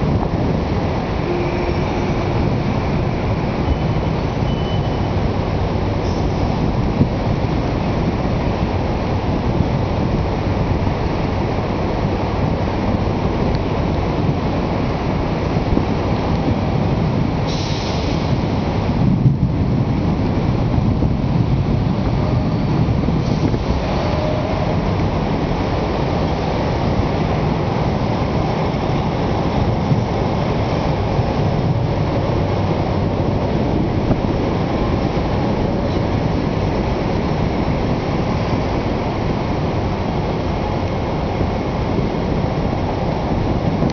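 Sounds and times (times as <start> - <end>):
rain: 0.0 - 43.9
wind: 0.0 - 43.9.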